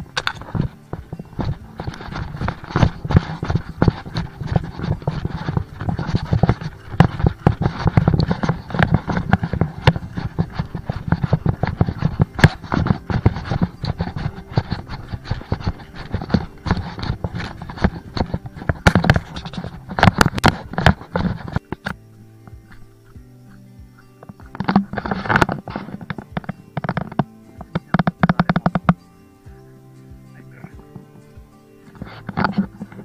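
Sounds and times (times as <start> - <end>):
footsteps crunching on trail: 0.0 - 33.0.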